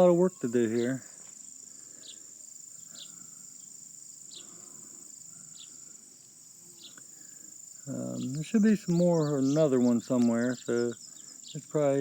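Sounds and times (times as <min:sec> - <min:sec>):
insects chirring: 0:00.0 - 0:12.0
short high insect chirps: 0:00.8 - 0:11.9.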